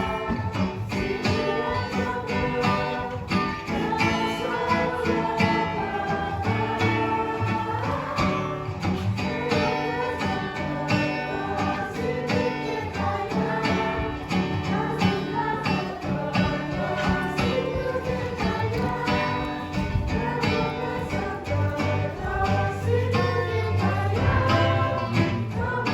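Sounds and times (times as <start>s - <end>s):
song with singing and guitar: 0.0s - 25.9s.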